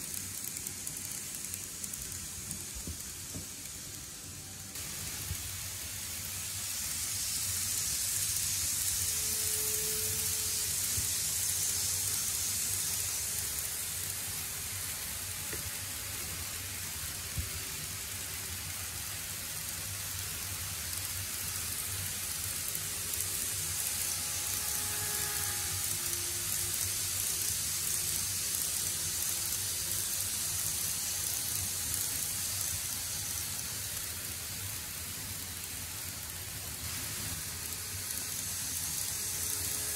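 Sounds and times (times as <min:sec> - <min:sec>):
model train wheels rumbling: 0:00.0 - 0:39.9.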